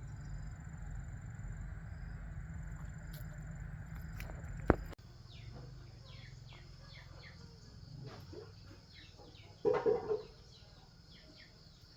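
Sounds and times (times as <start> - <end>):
low background hum: 0.0 - 11.9
bird chirping: 1.6 - 11.9.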